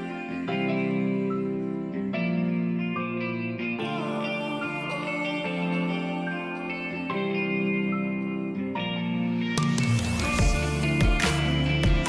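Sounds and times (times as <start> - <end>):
guitar instrumental music: 0.0 - 12.0.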